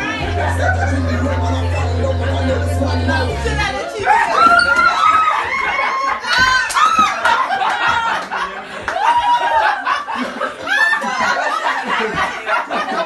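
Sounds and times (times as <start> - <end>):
group of people laughing: 0.0 - 2.0, 4.0 - 13.0.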